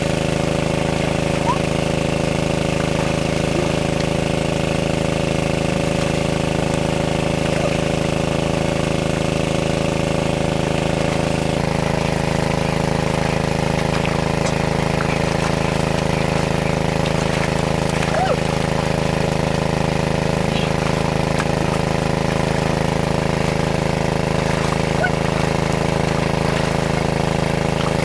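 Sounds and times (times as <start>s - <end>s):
small engine running steadily: 0.0s - 28.0s.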